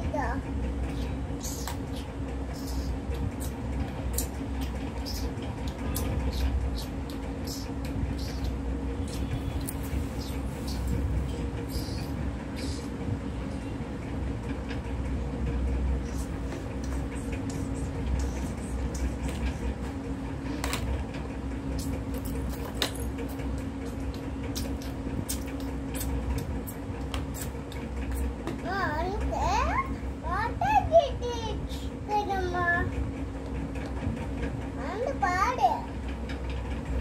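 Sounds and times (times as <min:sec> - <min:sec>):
low hum and rumble: 0:00.0 - 0:37.0.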